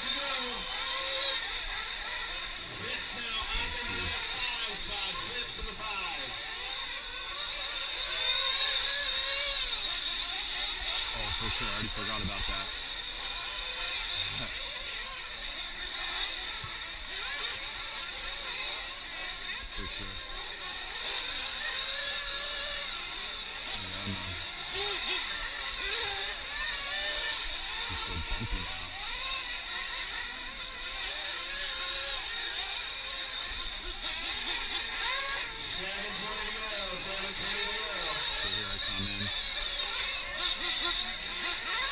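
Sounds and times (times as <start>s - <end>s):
rc truck engines buzzing: 0.0s - 41.9s.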